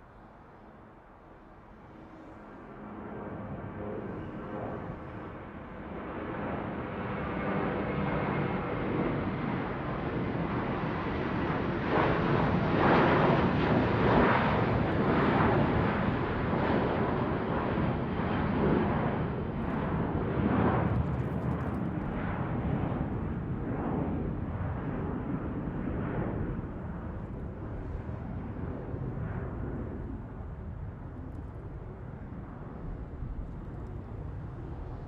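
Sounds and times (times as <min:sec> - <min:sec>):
airplane flying overhead: 0:00.0 - 0:35.0.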